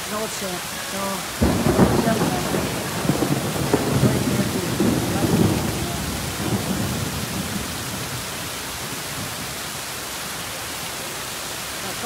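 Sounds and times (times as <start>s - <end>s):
heavy rain and hail: 0.0s - 12.0s.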